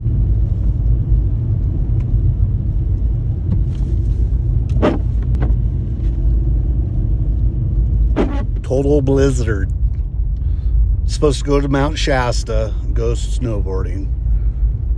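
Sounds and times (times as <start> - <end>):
car engine and road noise rumble: 0.0 - 14.9.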